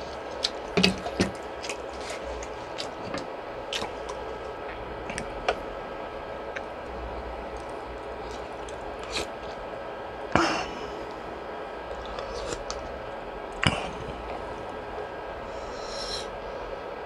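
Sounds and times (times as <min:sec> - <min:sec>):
eating from a bowl: 0:00.0 - 0:05.8, 0:06.4 - 0:10.3, 0:10.9 - 0:15.1
background hum: 0:00.0 - 0:17.0.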